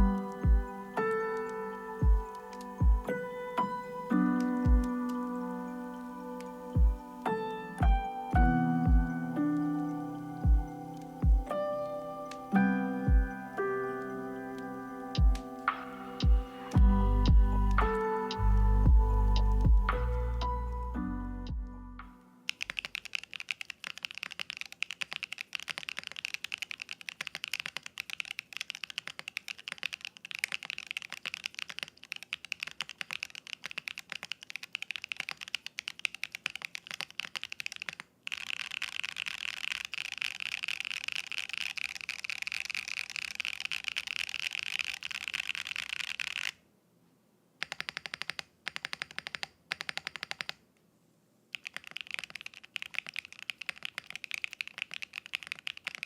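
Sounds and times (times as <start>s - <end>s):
typing on mechanical keyboard: 0.0s - 20.4s, 22.5s - 46.6s, 47.6s - 50.6s, 51.5s - 56.0s.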